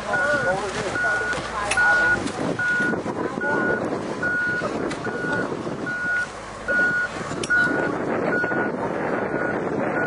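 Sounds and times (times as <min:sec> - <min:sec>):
steady background noise: 0:00.0 - 0:10.0
vehicle reversing alarm beeping: 0:00.0 - 0:10.0.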